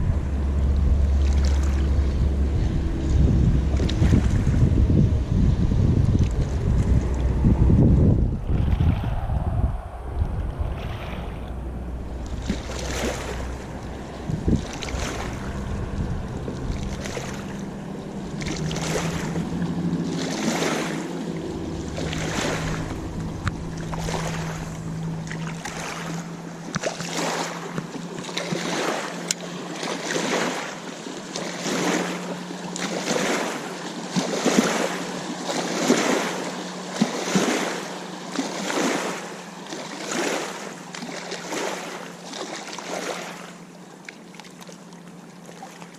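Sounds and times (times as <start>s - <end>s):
motorboat engine drone: 0.0s - 45.9s
small waves lapping: 0.0s - 45.9s.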